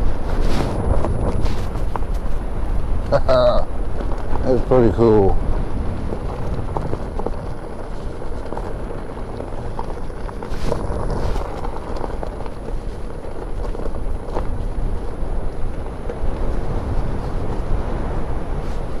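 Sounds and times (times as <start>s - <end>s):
tyre crunching over gravel: 0.0s - 19.0s
wind buffeting microphone: 0.0s - 19.0s.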